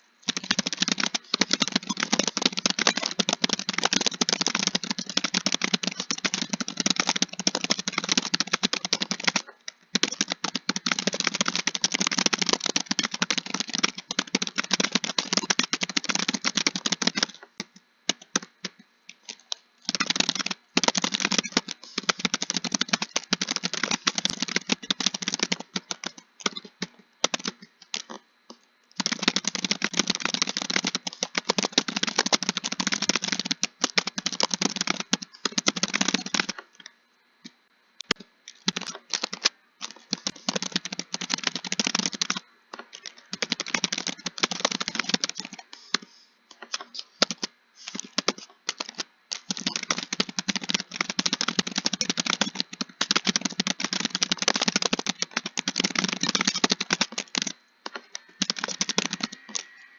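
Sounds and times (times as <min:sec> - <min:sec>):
fast keyboard typing: 0:00.0 - 0:28.2, 0:29.0 - 0:36.8, 0:38.0 - 0:59.9.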